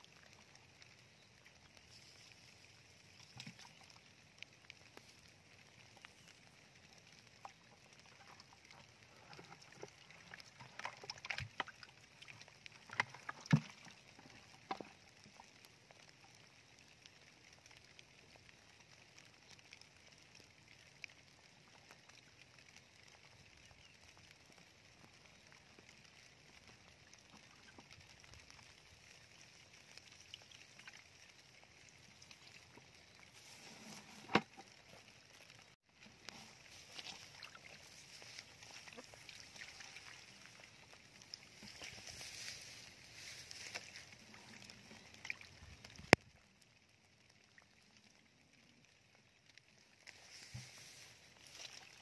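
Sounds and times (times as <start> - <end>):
shallow water trickling: 0.0 - 52.0.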